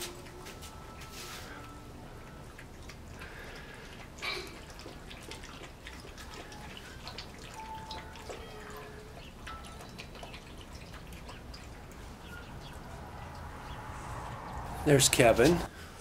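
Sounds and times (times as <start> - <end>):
puppies clicking and tapping: 0.0 - 13.8.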